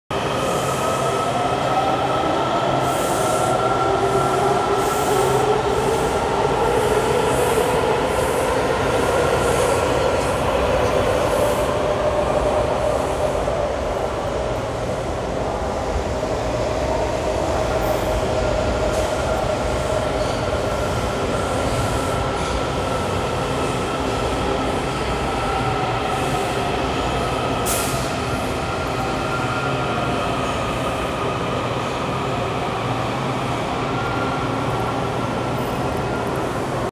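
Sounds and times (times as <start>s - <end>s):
subway train rumble: 0.1s - 36.9s.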